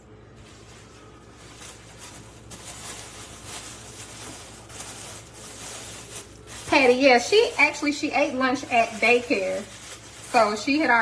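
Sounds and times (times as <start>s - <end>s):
plastic bag rustling: 0.3s - 11.0s.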